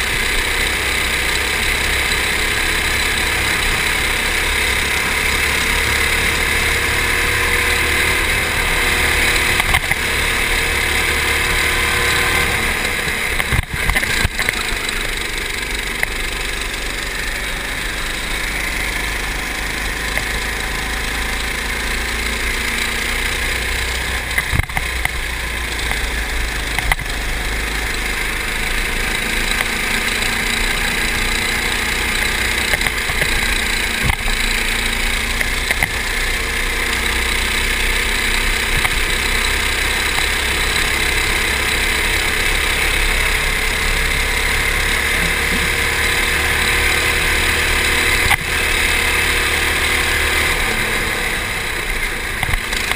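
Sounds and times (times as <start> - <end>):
go-kart engine running: 0.0 - 52.9.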